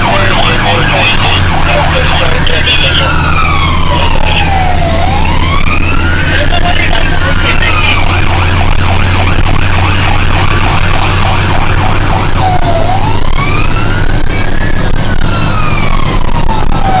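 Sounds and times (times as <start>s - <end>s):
fire truck siren: 0.0s - 17.0s
truck engine humming: 0.0s - 17.0s.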